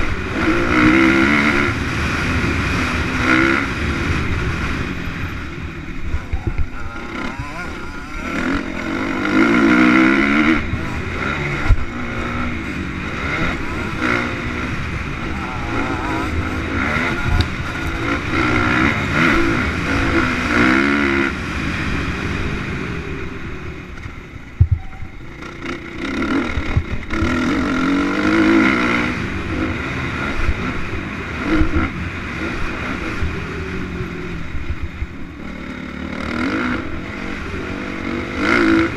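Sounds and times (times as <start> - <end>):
motocross motorcycles revving: 0.0 - 38.9.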